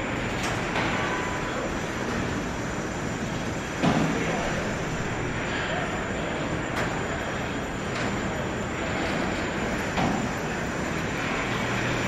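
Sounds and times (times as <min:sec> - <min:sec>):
construction noise: 0:00.0 - 0:12.0.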